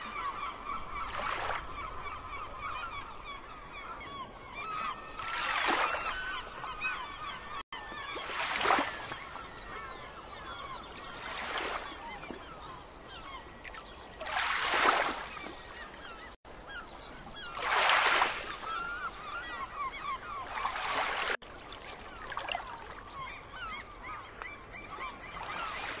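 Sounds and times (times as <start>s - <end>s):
birds honking and chirping: 0.0s - 21.5s, 22.1s - 26.0s.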